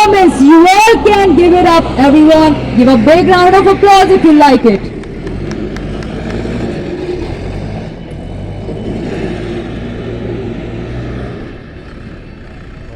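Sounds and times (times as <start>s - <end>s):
diesel engine running under load: 0.0s - 12.9s.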